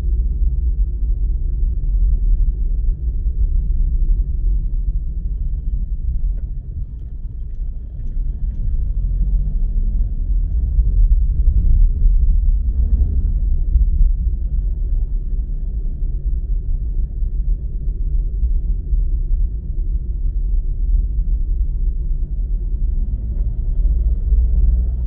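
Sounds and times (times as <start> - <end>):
car driving rumble: 0.0 - 25.0.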